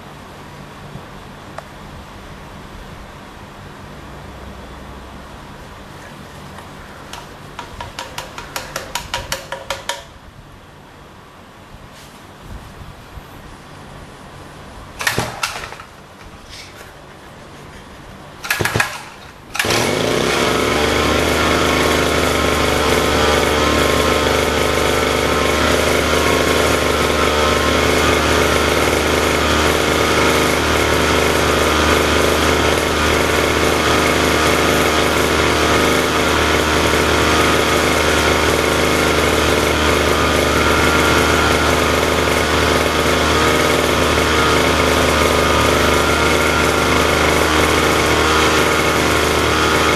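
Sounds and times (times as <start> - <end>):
lawn-mower engine starting and running: 4.5 - 10.1, 13.8 - 49.9.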